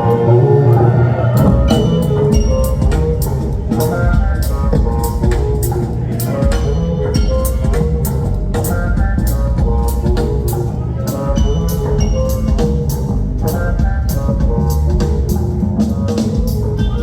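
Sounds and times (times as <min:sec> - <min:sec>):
heavy bass line: 0:00.0 - 0:17.0
drum kit beat: 0:01.4 - 0:17.0.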